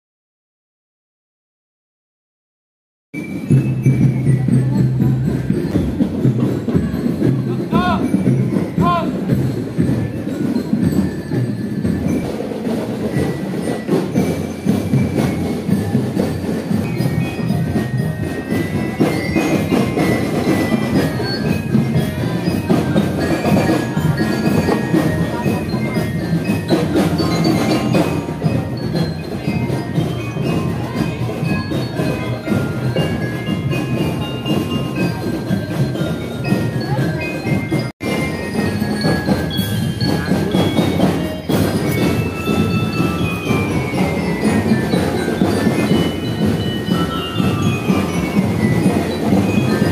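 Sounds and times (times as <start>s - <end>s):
bell lyres playing a march: 3.2s - 49.9s
continuous drumming: 3.2s - 49.9s.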